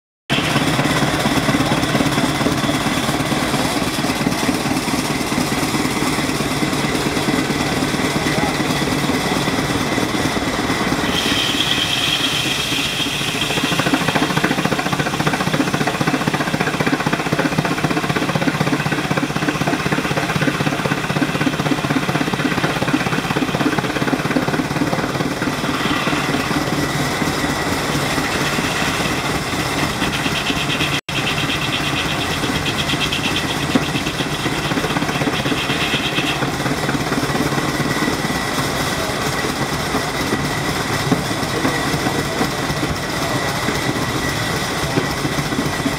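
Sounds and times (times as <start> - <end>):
saw blade whine: 0.3 - 45.9
sawmill running: 0.3 - 45.9.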